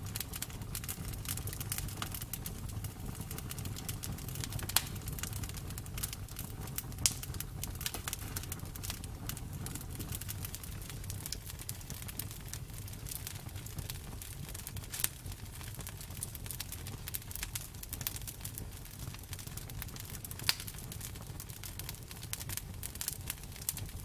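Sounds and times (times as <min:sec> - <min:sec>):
campfire wood crackling: 0:00.0 - 0:24.0
low rumble of flames: 0:00.0 - 0:24.0
sharp fire pops: 0:00.0 - 0:24.0.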